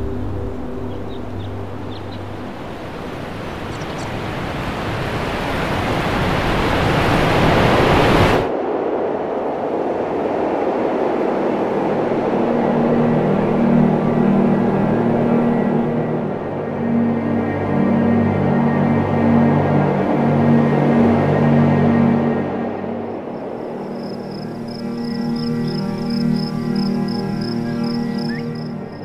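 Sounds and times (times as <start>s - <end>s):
low quieter rush: 0.0s - 29.0s
rushing noise: 0.0s - 29.0s.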